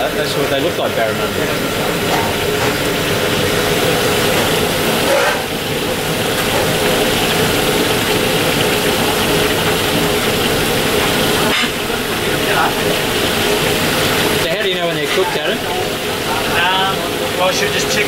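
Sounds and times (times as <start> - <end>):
gas burner roaring: 0.0 - 18.0
oil sizzling: 0.0 - 18.0.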